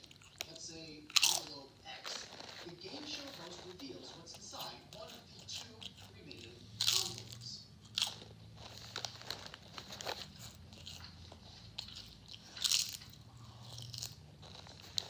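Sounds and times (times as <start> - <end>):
potato chips crunching: 0.0 - 15.0.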